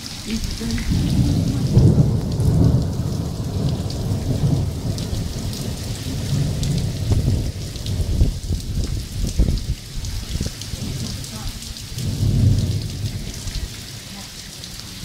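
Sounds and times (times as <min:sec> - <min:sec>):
heavy rain and hail: 0:00.0 - 0:15.0
deep thunder rumble: 0:00.5 - 0:13.9.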